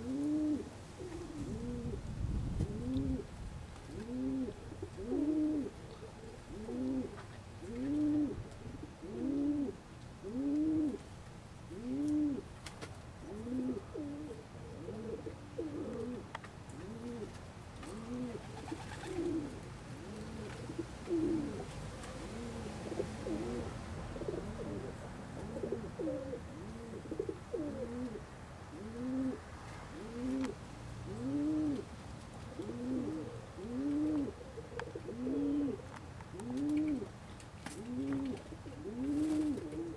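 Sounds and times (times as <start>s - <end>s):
pigeons cooing: 0.0s - 2.0s, 2.6s - 3.3s, 3.9s - 11.0s, 11.7s - 12.5s, 13.2s - 31.9s, 32.5s - 39.9s.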